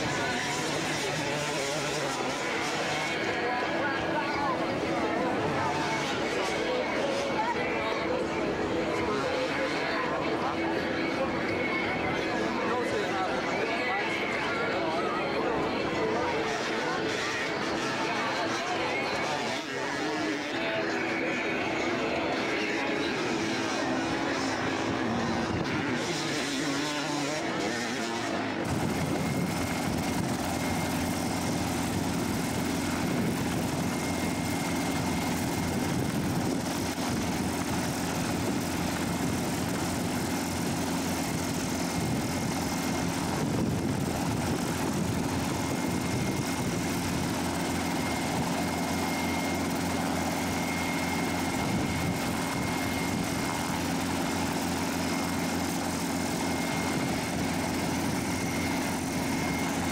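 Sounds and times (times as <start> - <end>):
helicopter engine and rotor idling: 0.0 - 59.9.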